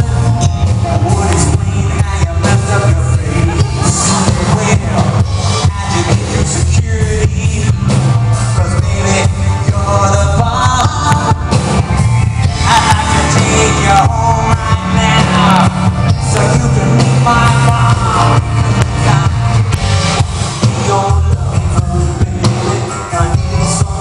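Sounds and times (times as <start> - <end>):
drums: 0.0 - 24.0
live rock band playing: 0.0 - 24.0
man singing: 0.0 - 24.0.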